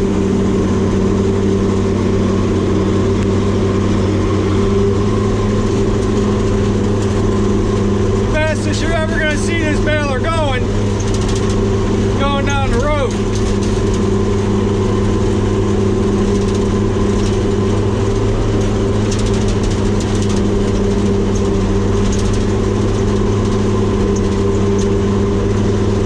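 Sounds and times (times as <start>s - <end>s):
baler engine running: 0.0s - 26.0s.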